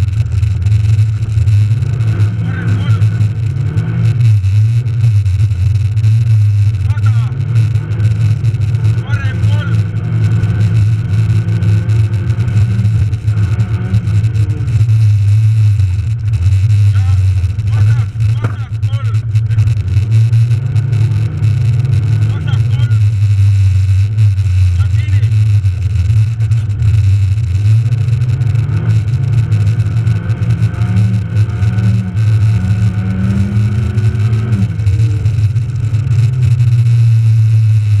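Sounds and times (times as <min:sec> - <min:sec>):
car engine droning in cabin: 0:00.0 - 0:38.0.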